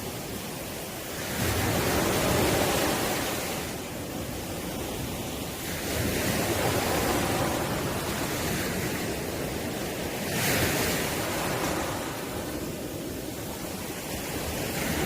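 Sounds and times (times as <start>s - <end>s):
ocean waves breaking on shore: 0.0s - 15.0s.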